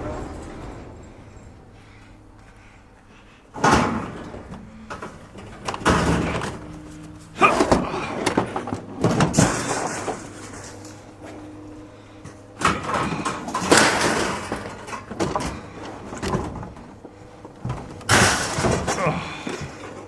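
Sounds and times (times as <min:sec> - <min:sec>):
metal clanking and scraping: 0:00.0 - 0:20.0.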